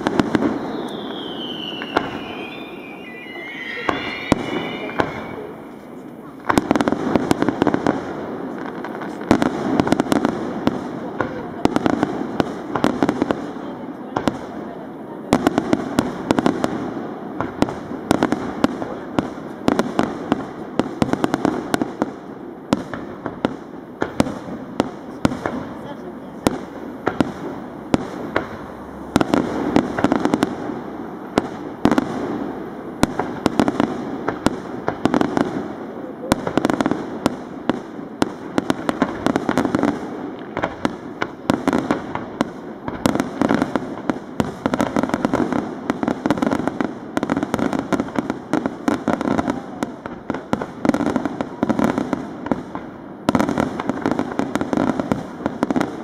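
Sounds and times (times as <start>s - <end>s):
firework bangs and crackles: 0.0s - 56.0s.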